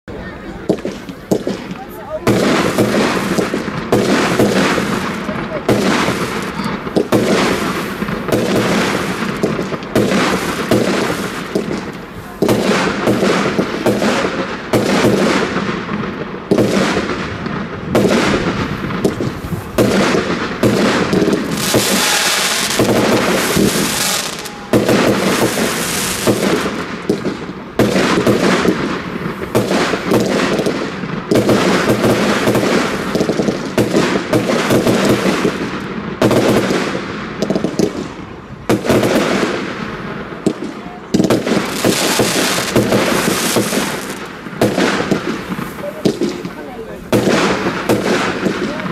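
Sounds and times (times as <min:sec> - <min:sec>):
fireworks launching and bursting: 0:00.1 - 0:48.9
hissing crackle of fireworks: 0:00.1 - 0:48.9.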